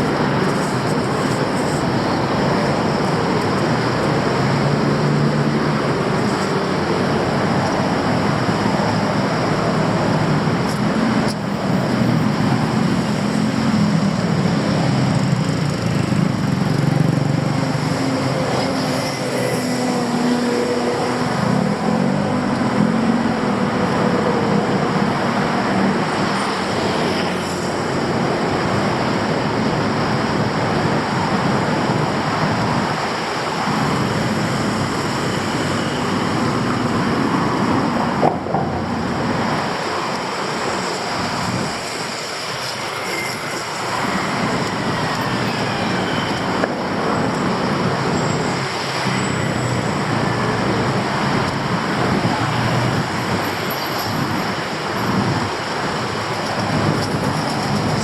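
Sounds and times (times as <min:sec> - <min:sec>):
city street traffic: 0:00.0 - 0:58.0.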